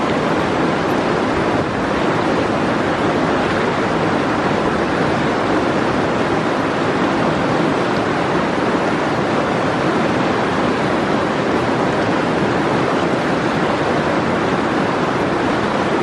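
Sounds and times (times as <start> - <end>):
river rushing through rapids: 0.0 - 16.0.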